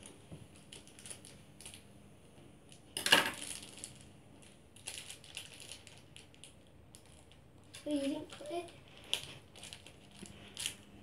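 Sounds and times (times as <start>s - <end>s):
plastic packaging clicks and crinkles: 0.0s - 1.9s, 2.7s - 10.9s.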